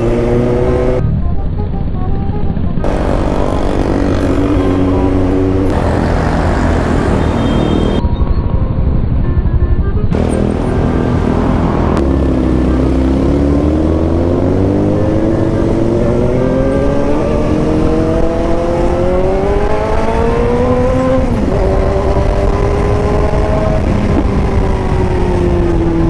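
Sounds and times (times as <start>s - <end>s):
motorcycle engine revving: 0.0s - 1.5s, 2.2s - 26.0s
rushing wind: 0.0s - 26.0s.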